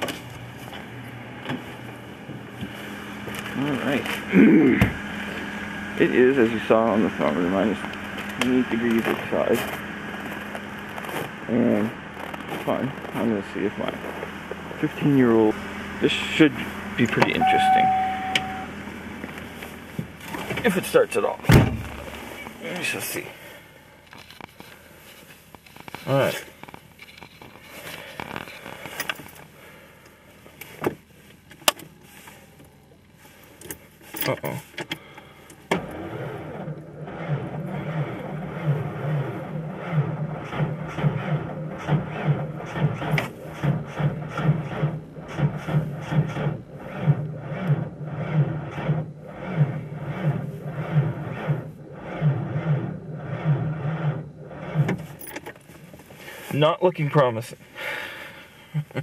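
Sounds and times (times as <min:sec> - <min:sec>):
car engine cranking slowly: 0:00.1 - 0:59.0.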